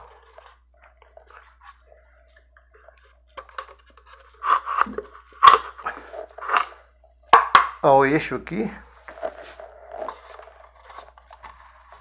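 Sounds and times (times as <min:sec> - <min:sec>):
paper cups rustling: 0:00.0 - 0:06.8, 0:08.9 - 0:12.0.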